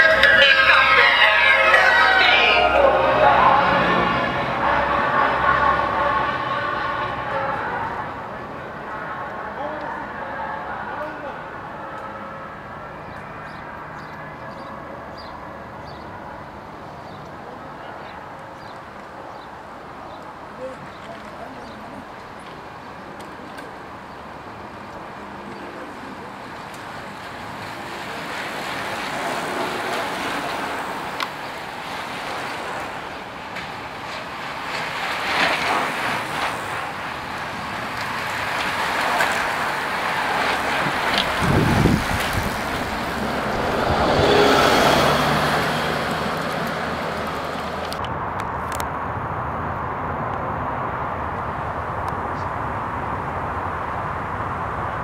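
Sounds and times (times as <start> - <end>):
motor vehicle noise: 0.0 - 55.0
racing cyclists passing: 0.0 - 55.0.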